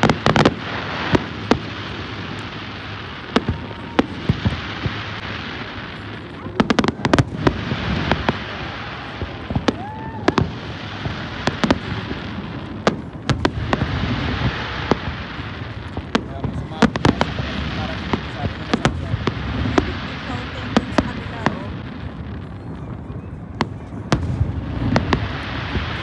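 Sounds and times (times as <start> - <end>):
continuous rumble: 0.0 - 26.0
fireworks bangs: 0.0 - 26.0.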